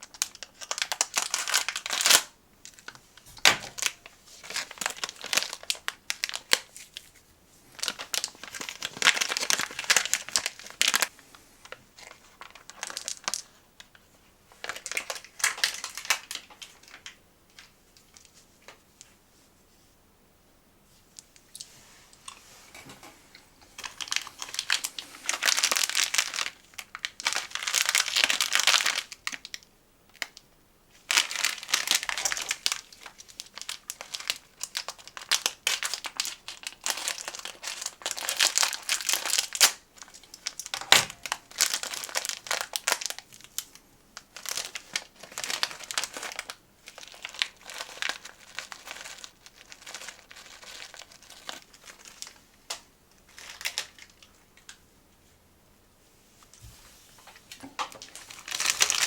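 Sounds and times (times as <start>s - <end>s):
plastic wrapper crinkling: 0.0s - 19.1s, 23.7s - 54.8s, 57.2s - 59.0s.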